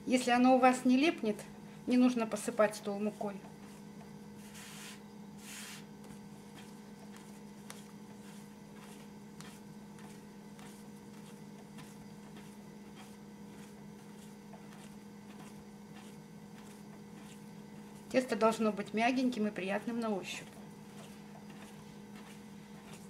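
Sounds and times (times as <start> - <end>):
steady low hum: 0.0 - 23.0
dough pressing and squishing: 2.2 - 23.0.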